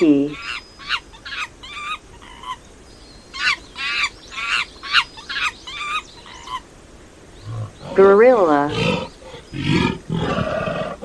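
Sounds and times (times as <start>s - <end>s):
monkey high-pitched calls: 0.0s - 6.8s, 7.4s - 11.0s.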